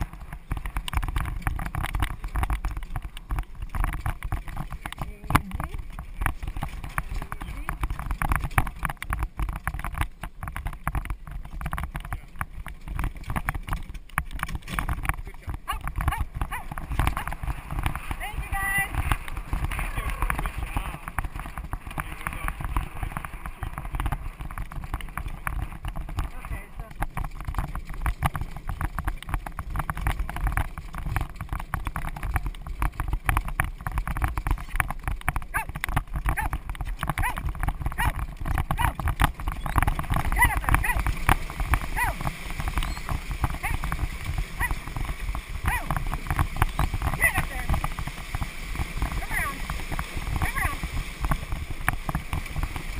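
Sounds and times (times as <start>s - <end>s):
carriage rumbling and rattling: 0.0s - 52.9s
hoofbeats: 0.0s - 52.9s
wind buffeting microphone: 0.0s - 52.9s.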